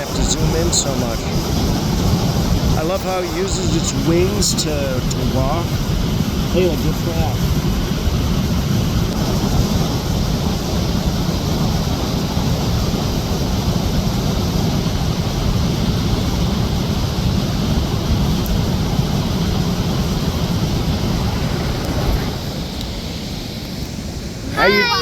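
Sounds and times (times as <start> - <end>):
waterfall rushing: 0.0 - 16.0, 18.6 - 25.0.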